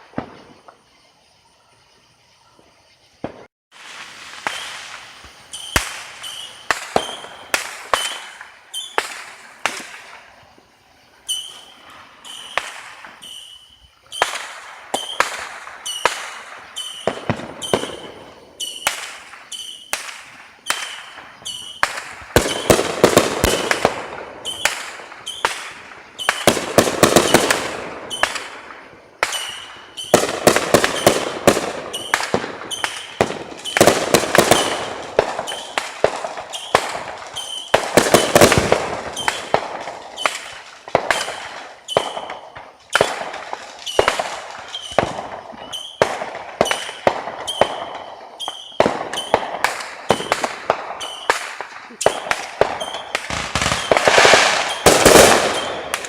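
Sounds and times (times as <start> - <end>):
fireworks banging: 0.0 - 0.9, 3.2 - 56.0
rapid fireworks crackling: 3.1 - 56.0.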